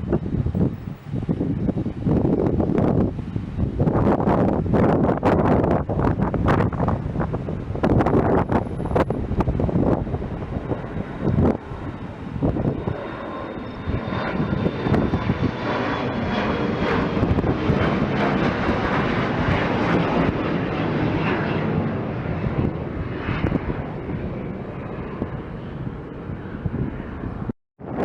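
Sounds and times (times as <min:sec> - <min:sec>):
airliner engines passing: 0:00.0 - 0:28.0
wind buffeting microphone: 0:00.0 - 0:28.0.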